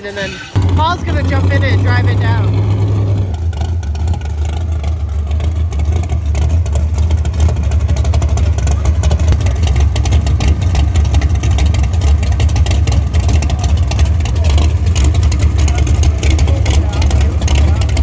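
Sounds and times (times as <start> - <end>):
dragster engine idling: 0.0 - 18.0.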